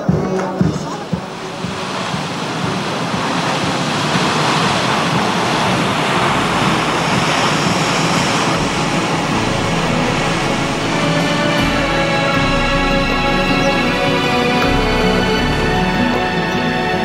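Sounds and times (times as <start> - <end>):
water rushing through rocks: 0.3 - 17.0.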